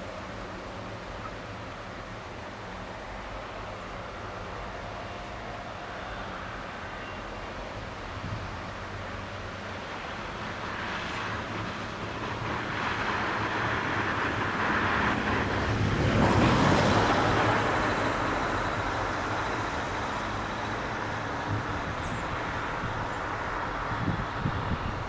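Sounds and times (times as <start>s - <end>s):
motorway traffic noise: 0.0s - 25.0s.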